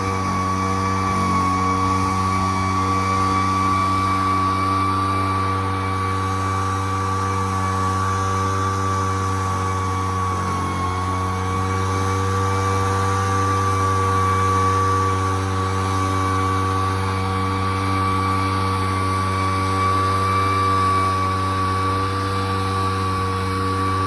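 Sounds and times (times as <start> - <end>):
high steady whine: 0.0 - 24.0
leaf blower engine running: 0.0 - 24.0.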